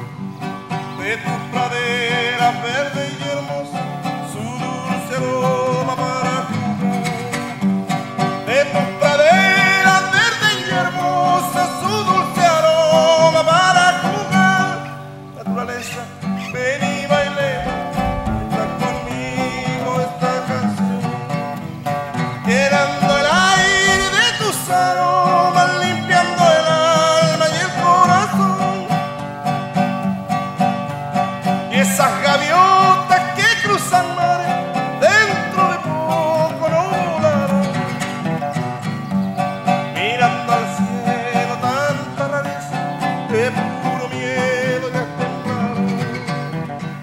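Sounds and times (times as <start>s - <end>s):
acoustic guitars playing folk song: 0.0s - 47.0s.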